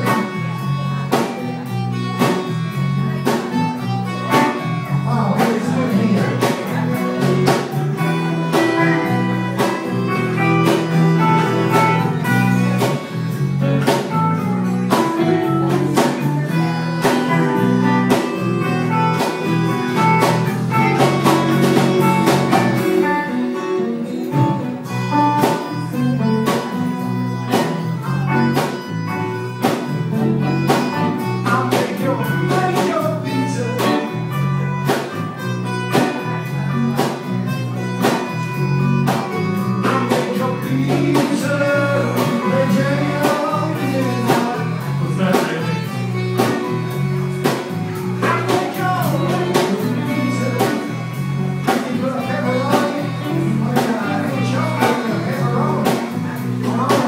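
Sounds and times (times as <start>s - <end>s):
acoustic guitar: 0.0s - 57.0s
electric bass line: 0.0s - 57.0s
electric guitar: 0.0s - 57.0s.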